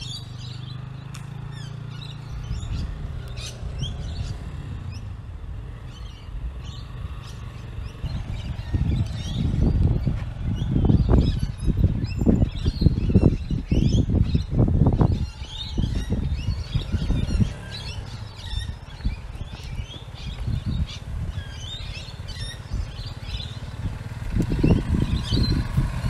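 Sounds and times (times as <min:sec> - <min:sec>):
birds chirping and calling: 0:00.0 - 0:26.0
low rumble: 0:01.6 - 0:26.0.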